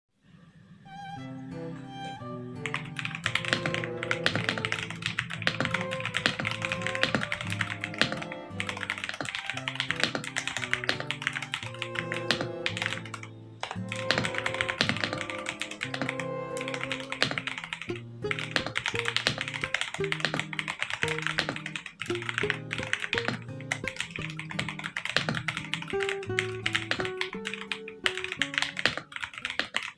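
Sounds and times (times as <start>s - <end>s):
background music: 0.3s - 29.4s
mechanical keyboard typing: 2.6s - 29.9s.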